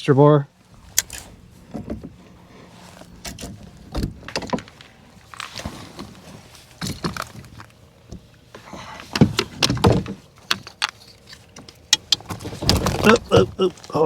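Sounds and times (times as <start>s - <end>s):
knocks and rattles on kayak: 1.0s - 2.4s, 3.1s - 14.0s.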